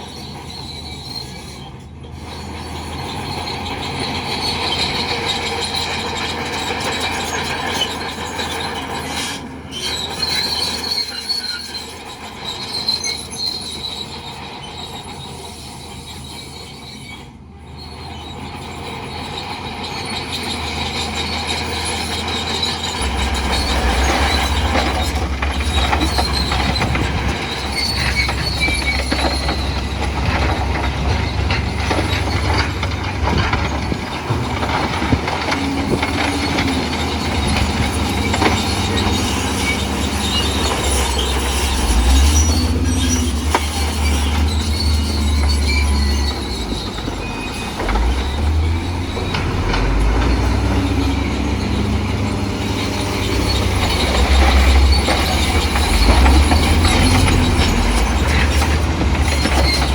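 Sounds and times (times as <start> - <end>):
diesel engine drone: 0.0 - 59.9
steel tracks squealing and clanking: 0.0 - 59.9.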